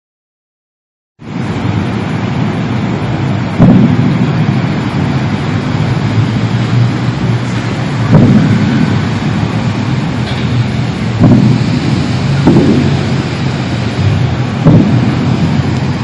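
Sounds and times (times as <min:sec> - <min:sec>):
loud low rumbling drone: 0:01.2 - 0:16.0.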